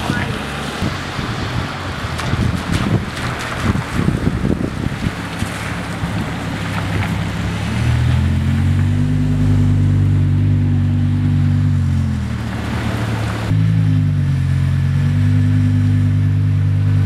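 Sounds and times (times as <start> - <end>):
rushing noise: 0.0 - 13.9
car engine droning: 0.0 - 17.0.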